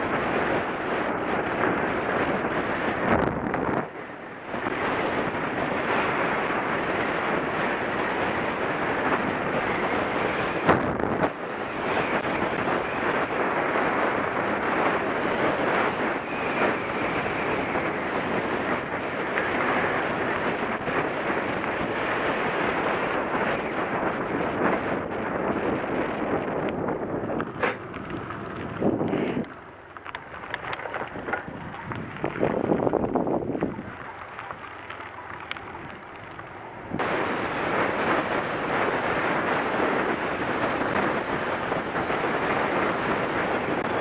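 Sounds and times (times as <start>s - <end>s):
tyres rumbling on gravel: 0.0s - 44.0s
wind buffeting microphone: 0.0s - 44.0s.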